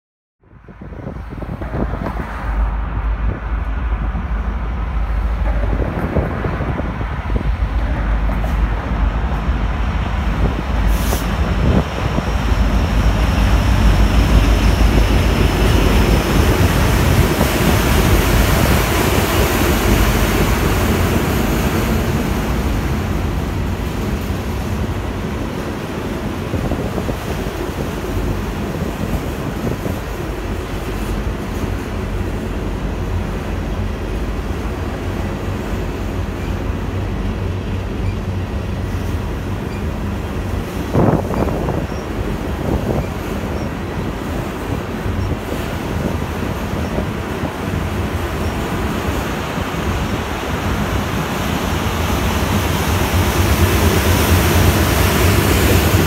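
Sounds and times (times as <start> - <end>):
wind buffeting microphone: 0.4 - 56.0
diesel locomotive passing: 0.5 - 56.0
train wheels on rails: 1.0 - 56.0.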